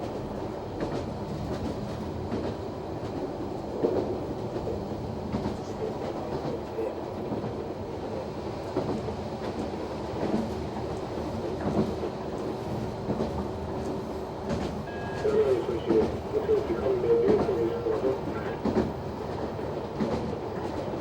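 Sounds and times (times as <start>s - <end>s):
diesel railcar rumbling: 0.0s - 21.0s.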